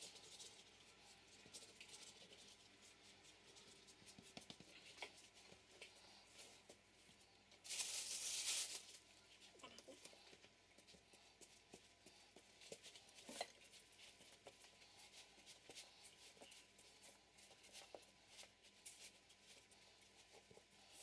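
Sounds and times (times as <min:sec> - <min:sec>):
hands rolling dough rustling: 0:00.0 - 0:21.0.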